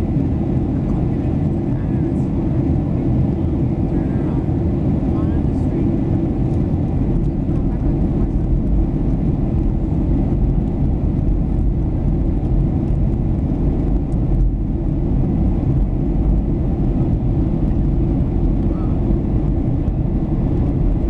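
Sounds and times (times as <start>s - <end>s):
airflow over fuselage: 0.0s - 21.0s
jet engine drone: 0.0s - 21.0s.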